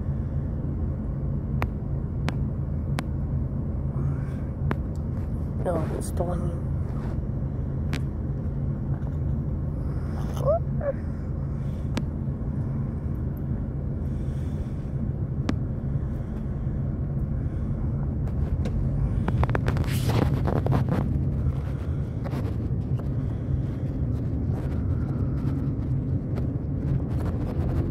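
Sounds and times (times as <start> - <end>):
car engine and road rumble: 0.0 - 27.9.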